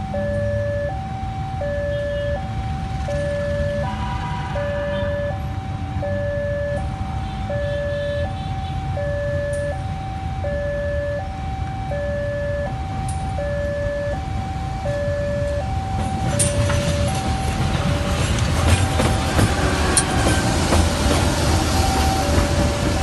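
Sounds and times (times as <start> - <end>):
level crossing two-tone alarm: 0.0 - 18.4, 21.7 - 23.0
diesel locomotive passing: 0.0 - 23.0.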